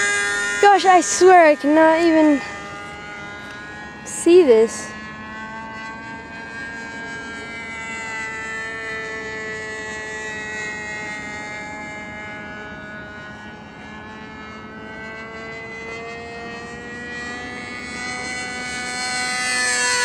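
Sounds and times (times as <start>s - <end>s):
distant model airplane engine buzzing: 0.0s - 20.0s.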